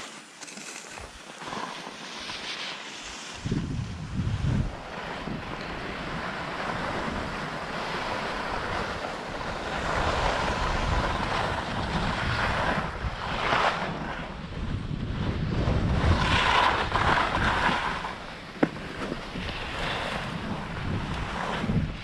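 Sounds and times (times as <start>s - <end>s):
skis scraping over snow: 0.0s - 22.0s
wind on microphone: 2.2s - 22.0s.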